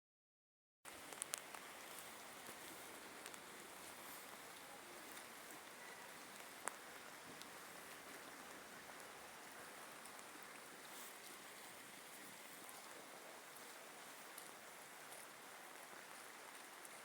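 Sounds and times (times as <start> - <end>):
raindrop ticks: 0.9 - 17.0
steady rain hiss: 0.9 - 17.0.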